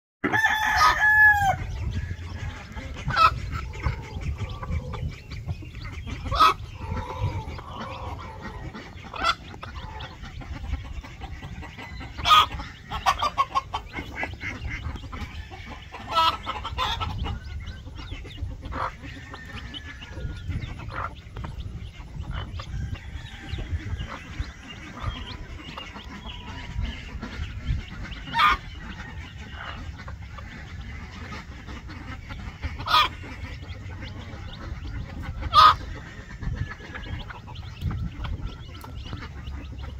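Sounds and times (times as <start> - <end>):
chicks peeping: 0.2 - 39.9
hen clucking: 0.2 - 39.9.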